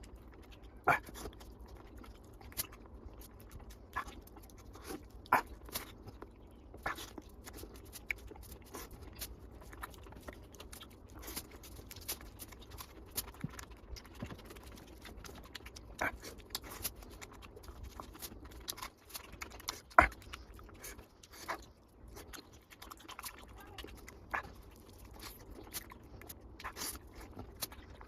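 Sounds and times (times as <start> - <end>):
person chewing and lip smacking: 0.0 - 28.0.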